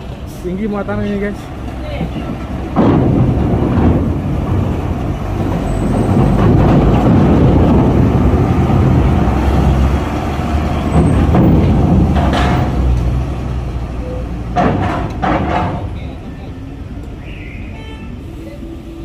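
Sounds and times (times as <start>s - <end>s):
diesel truck engine under load: 0.0s - 19.0s.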